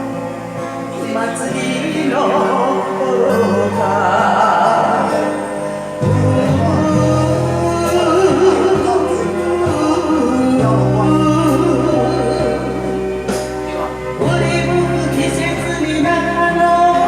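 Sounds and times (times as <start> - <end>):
karaoke backing music: 0.0 - 17.0.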